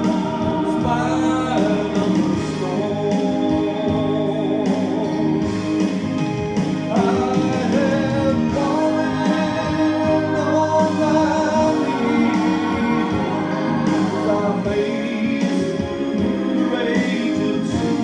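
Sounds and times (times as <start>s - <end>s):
man singing into microphone: 0.0s - 5.8s, 6.8s - 18.0s
instrumental accompaniment: 0.0s - 18.0s.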